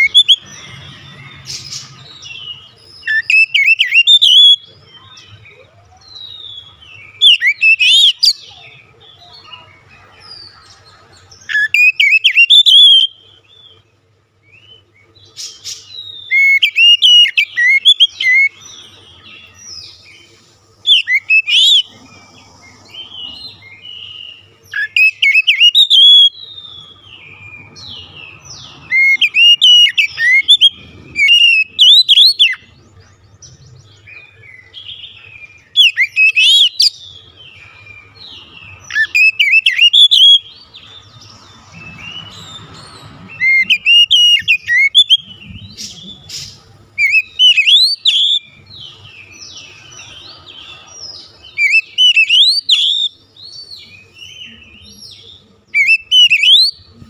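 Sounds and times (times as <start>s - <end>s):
bird singing whistled notes: 0.0s - 9.7s, 11.4s - 13.8s, 14.5s - 21.9s, 22.9s - 32.8s, 33.6s - 57.0s.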